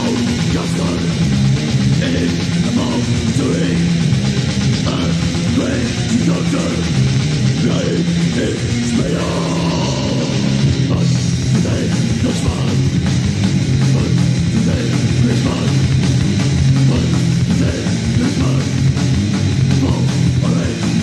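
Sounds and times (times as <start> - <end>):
heavy metal band playing: 0.0 - 21.0.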